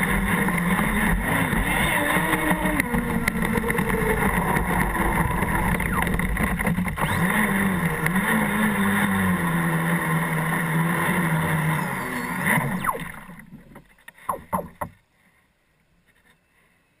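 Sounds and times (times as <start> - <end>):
electric motor whine: 0.0 - 13.6.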